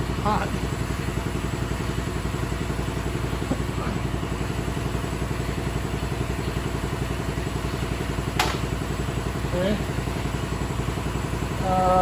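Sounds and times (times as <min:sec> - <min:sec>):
motor running with low pulse: 0:00.0 - 0:12.0.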